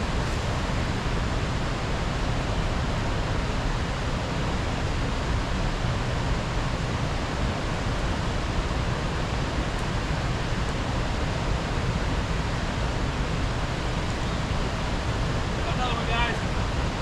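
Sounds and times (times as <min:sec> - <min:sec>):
rushing outdoor noise: 0:00.0 - 0:17.0.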